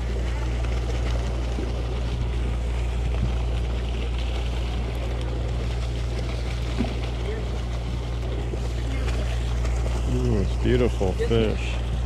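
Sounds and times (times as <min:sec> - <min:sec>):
boat engine drone: 0:00.0 - 0:12.0
wind and sea noise: 0:00.0 - 0:12.0.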